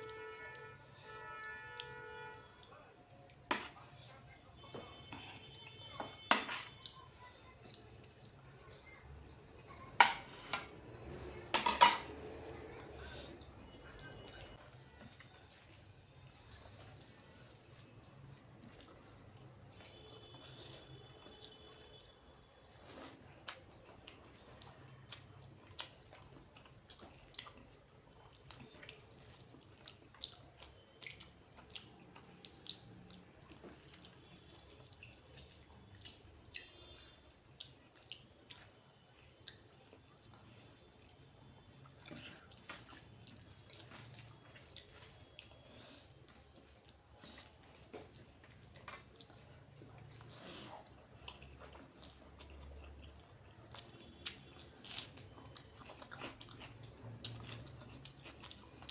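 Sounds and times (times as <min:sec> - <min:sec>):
wet chewing sounds: 0:00.0 - 0:58.9.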